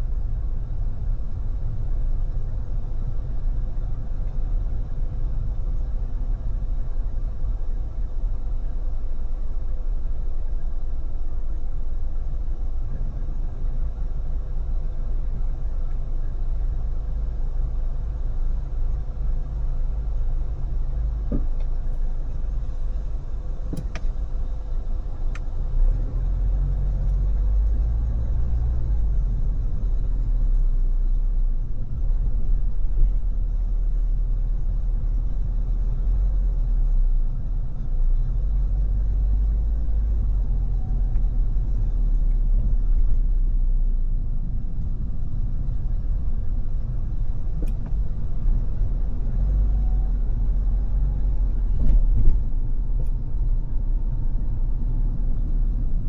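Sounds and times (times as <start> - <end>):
tyre and road noise: 0.0 - 56.0.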